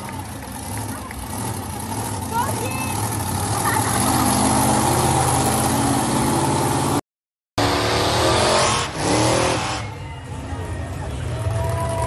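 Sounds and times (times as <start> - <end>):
monster truck engine revving: 0.2 - 7.0, 7.6 - 12.0.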